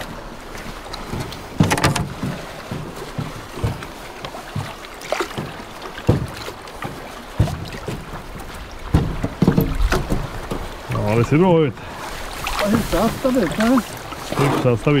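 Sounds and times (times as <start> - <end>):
knocks and thumps on canoe: 0.0 - 15.0
water noise: 0.0 - 15.0.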